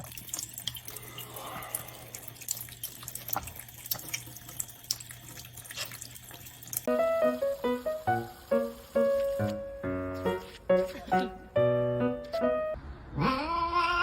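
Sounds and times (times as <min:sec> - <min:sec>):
running water: 0:00.0 - 0:11.5.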